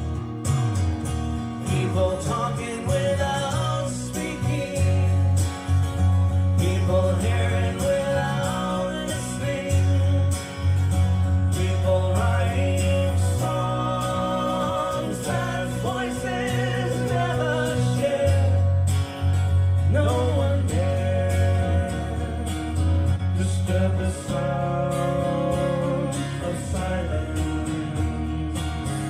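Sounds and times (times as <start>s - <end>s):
song with singing and guitar: 0.0s - 29.0s.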